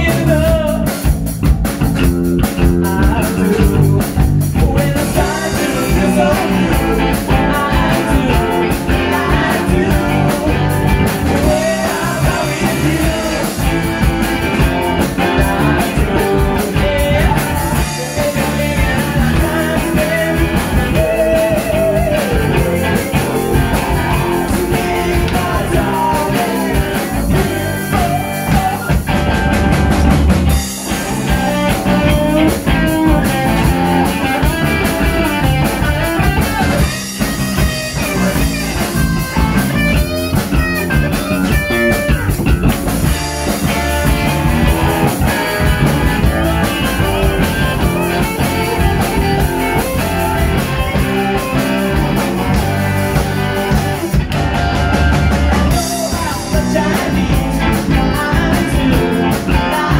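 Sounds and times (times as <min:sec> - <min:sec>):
lead vocals: 0:00.0 - 0:01.4, 0:02.4 - 0:59.9
drum kit: 0:00.0 - 0:59.9
electric bass: 0:00.0 - 0:59.9
electric guitars: 0:00.0 - 0:59.9.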